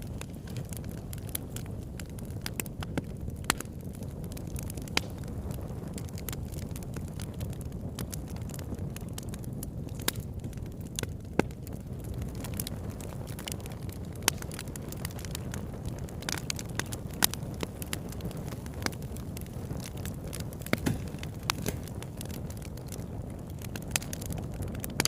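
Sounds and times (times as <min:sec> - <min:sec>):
burning wood crackling and popping: 0:00.0 - 0:25.0
campfire flames rumbling: 0:00.0 - 0:25.0.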